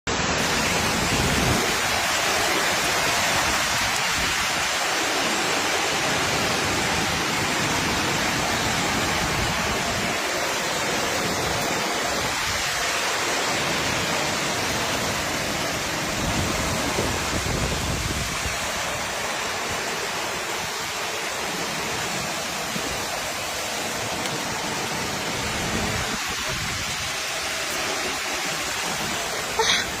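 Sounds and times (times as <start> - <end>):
heavy rain pouring: 0.1 - 30.0.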